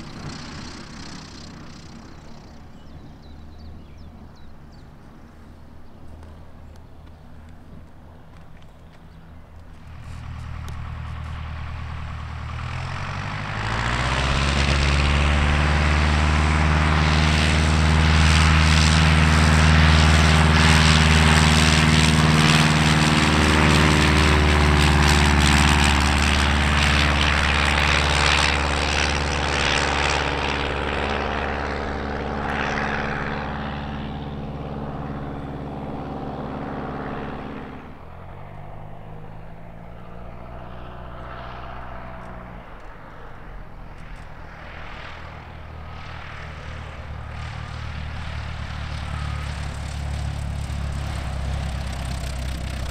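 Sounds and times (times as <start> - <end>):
light aircraft engine droning: 0.0 - 52.9
quieter light aircraft engine: 0.0 - 52.9.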